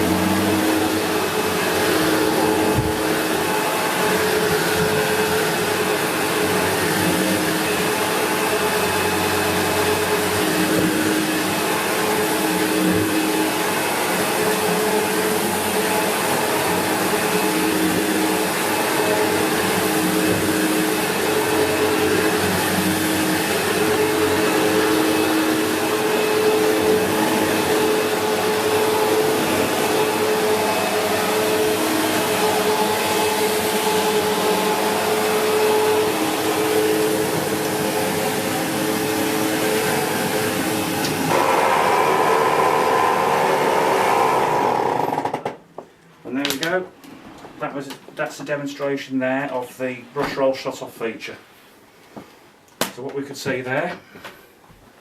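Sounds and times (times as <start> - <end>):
vacuum cleaner on carpet: 0.0 - 45.2.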